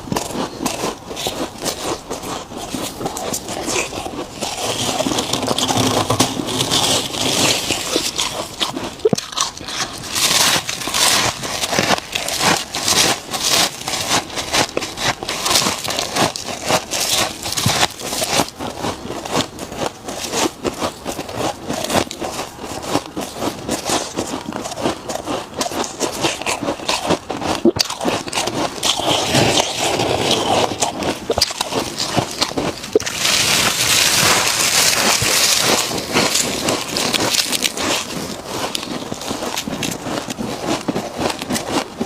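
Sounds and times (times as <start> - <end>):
frost being chewed: 0.0 - 42.0.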